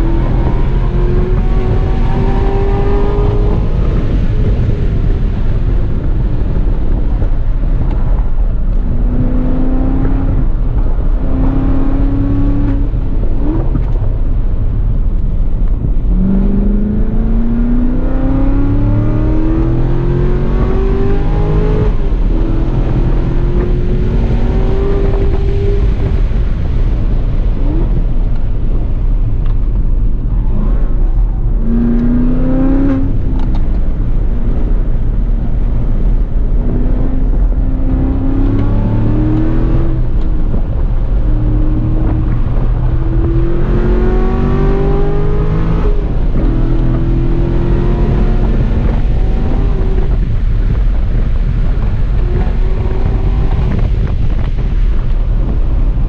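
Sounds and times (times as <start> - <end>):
car engine at full throttle: 0.0 - 56.0
wind and road rumble: 0.0 - 56.0.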